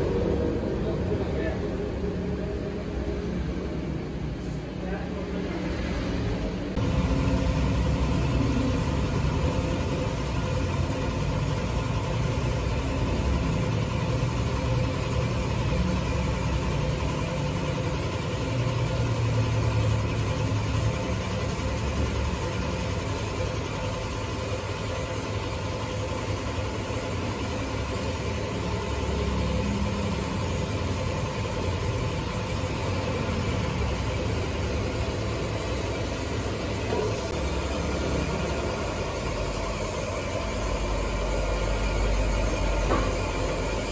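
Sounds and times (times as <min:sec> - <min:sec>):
air spray gun hissing: 0:06.7 - 0:43.9
motor running: 0:06.8 - 0:43.9.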